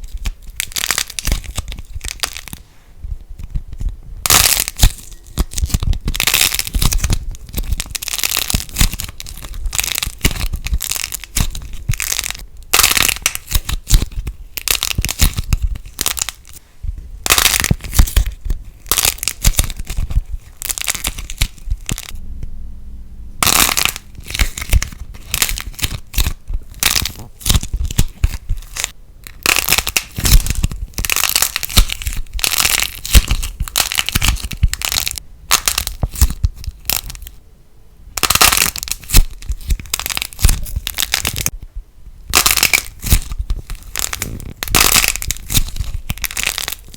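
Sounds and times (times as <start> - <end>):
slime crackling and popping: 0.0 - 2.7, 3.3 - 16.6, 17.2 - 22.2, 23.4 - 37.4, 38.2 - 41.6, 42.2 - 46.9.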